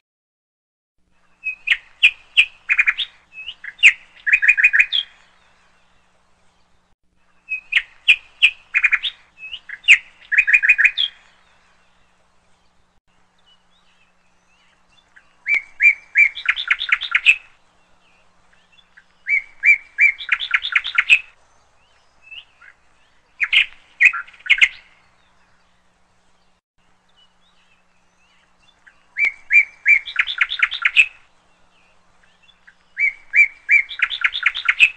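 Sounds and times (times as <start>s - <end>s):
songbird chirping and trilling: 1.1s - 34.9s.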